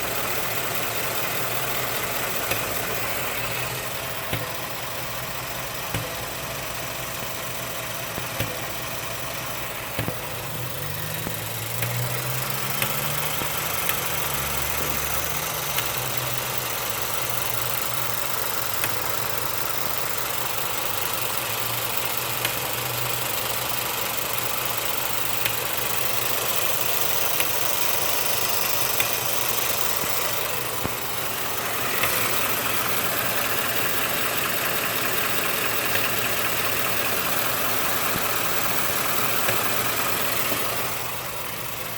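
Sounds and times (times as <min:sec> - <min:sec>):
car engine idling: 0:00.0 - 0:41.9
sharp engine ticks: 0:00.0 - 0:41.9.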